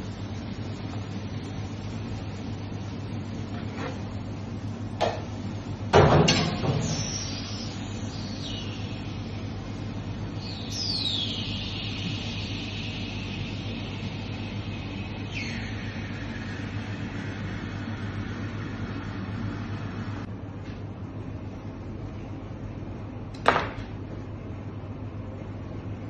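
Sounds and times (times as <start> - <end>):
kitchen ventilation hum: 0.0 - 26.0.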